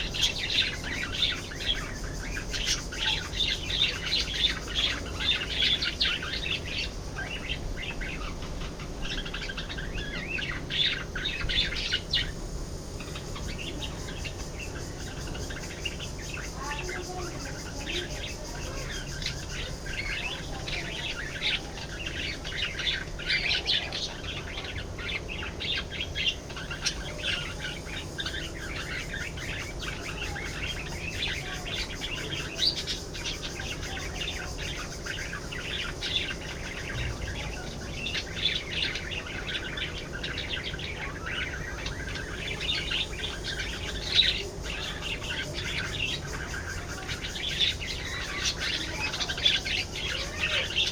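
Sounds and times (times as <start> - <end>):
budgerigars chirping: 0.0 - 50.9.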